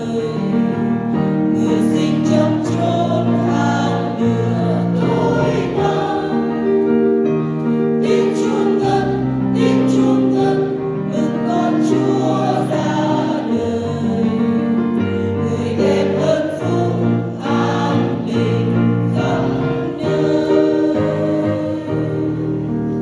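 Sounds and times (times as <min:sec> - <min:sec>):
church choir singing a hymn: 0:00.0 - 0:23.0.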